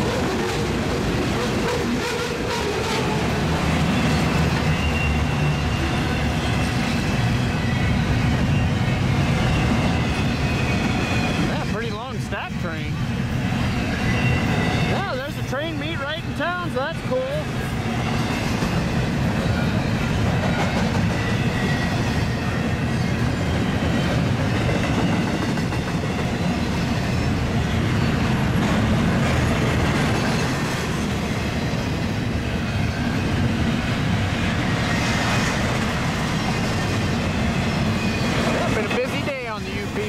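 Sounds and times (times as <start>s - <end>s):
train wheels clattering on rails: 0.0s - 11.8s, 17.5s - 40.0s
freight train rumbling past: 0.0s - 40.0s.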